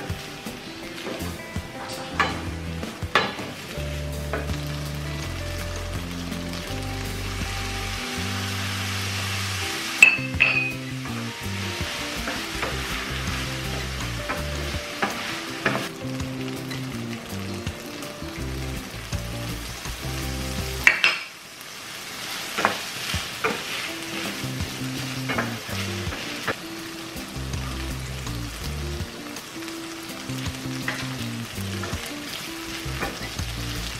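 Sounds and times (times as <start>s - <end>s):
tofu sizzling in a frying pan: 2.4s - 33.9s.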